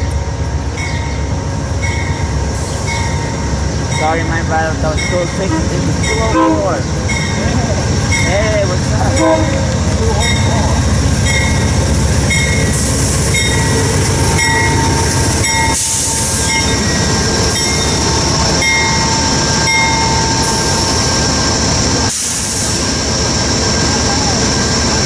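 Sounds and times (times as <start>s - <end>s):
locomotive bell ringing: 0.0s - 2.3s, 2.9s - 21.0s
diesel locomotive engine passing: 0.0s - 25.0s.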